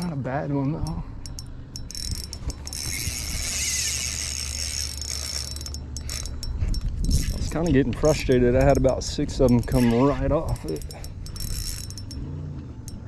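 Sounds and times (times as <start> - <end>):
fishing reel clicks: 0.8 - 12.2
fishing reel gears whirring: 0.8 - 13.0.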